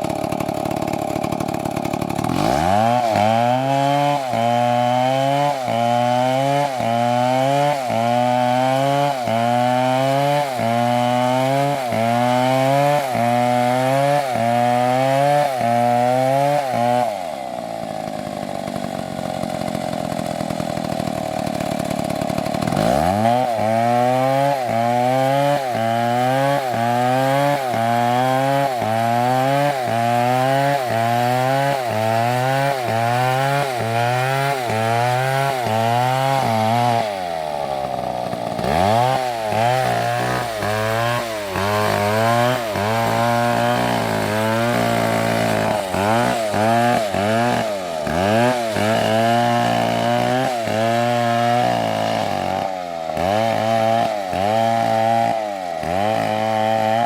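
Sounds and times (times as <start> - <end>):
chainsaw cutting: 0.0 - 57.0.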